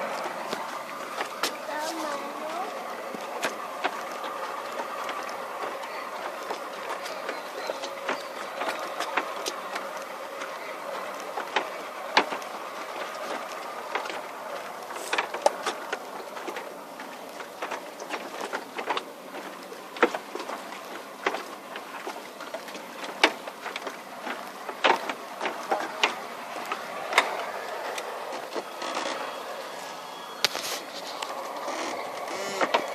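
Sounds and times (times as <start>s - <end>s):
boat engine running: 0.0s - 32.9s.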